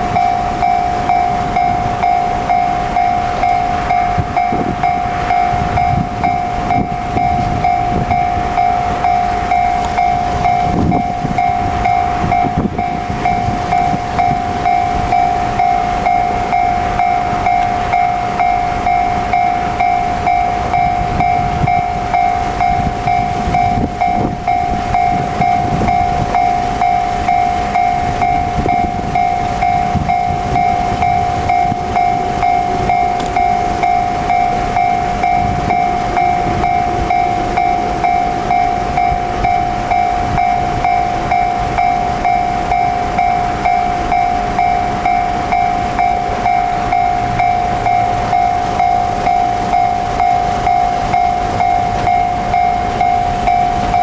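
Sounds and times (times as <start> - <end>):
level-crossing warning bell: 0.0 - 54.0.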